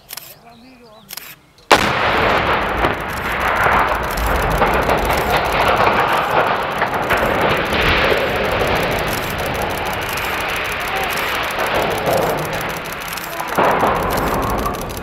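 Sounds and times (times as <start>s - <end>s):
rumbling roar of collapsing tower: 1.8s - 15.0s.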